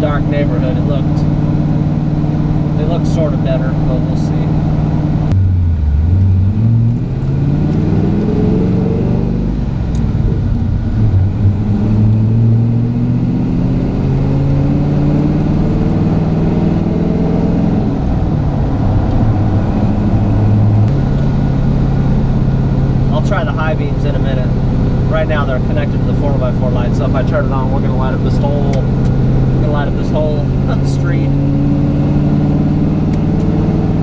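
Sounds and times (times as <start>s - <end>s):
truck engine while driving: 0.0s - 34.0s.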